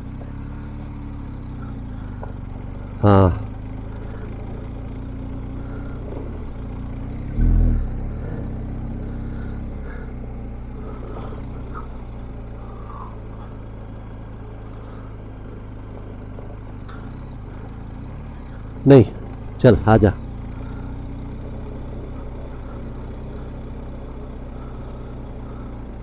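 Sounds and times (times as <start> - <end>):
motorcycle engine cruising: 0.0 - 26.0
wind and road noise: 0.0 - 26.0.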